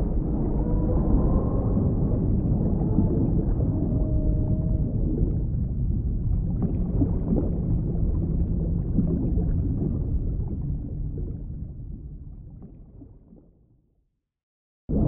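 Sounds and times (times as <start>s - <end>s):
underwater rumble of moving water: 0.0s - 13.9s.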